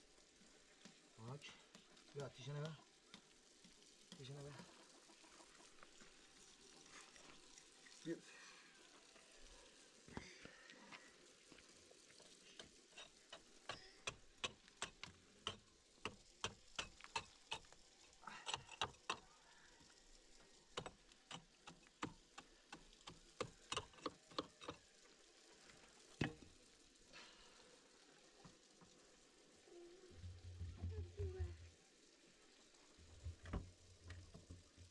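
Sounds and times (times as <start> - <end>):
faint steady hiss: 0.0 - 34.9.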